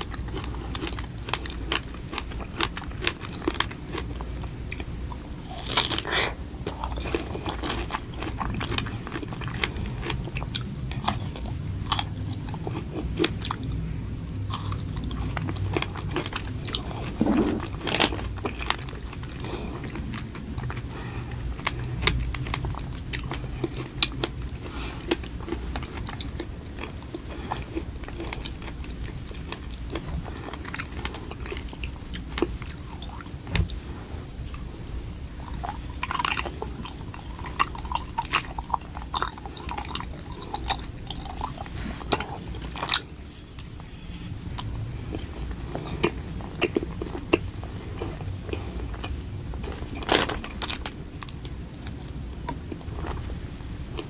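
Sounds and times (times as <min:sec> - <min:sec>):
crunchy chewing: 0:00.0 - 0:33.4, 0:35.2 - 0:54.0.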